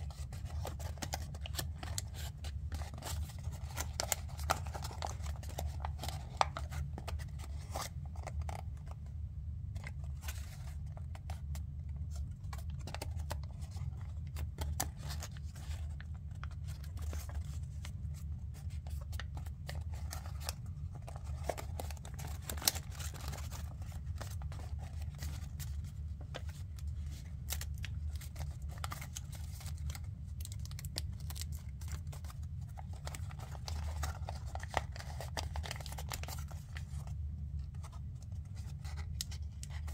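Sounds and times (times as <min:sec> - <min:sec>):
paper crinkling while folded: 0:00.0 - 0:39.9.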